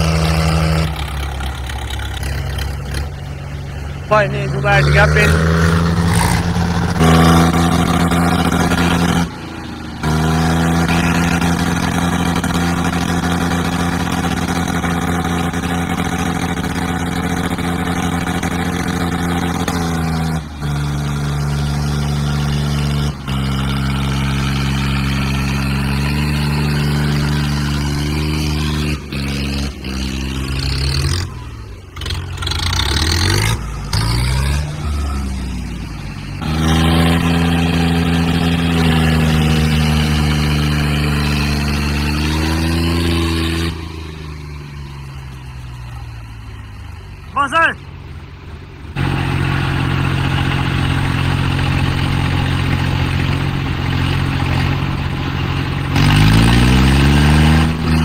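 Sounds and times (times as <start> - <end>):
tractor diesel engines straining: 0.0 - 58.0.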